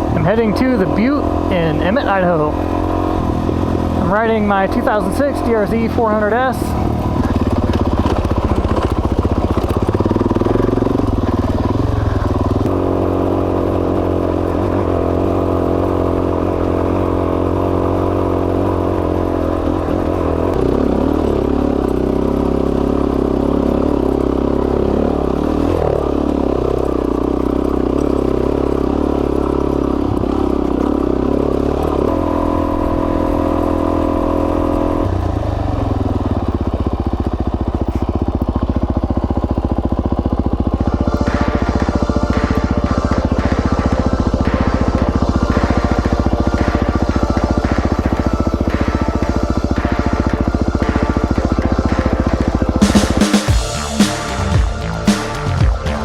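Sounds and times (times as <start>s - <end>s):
single-cylinder motorcycle engine running: 0.0s - 56.0s.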